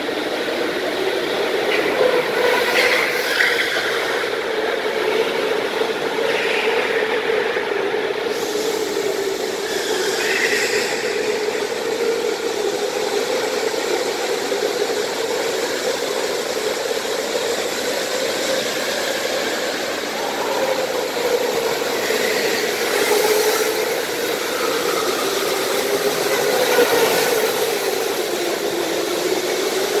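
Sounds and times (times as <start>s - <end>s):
go-karts droning: 0.0s - 30.0s.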